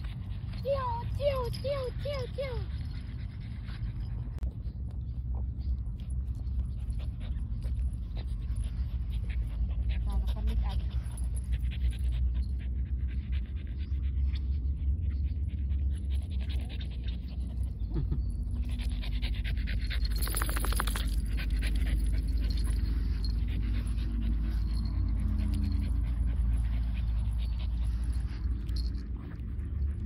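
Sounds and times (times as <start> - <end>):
dog panting: 0.0 - 30.0
steady low rumble: 0.0 - 30.0.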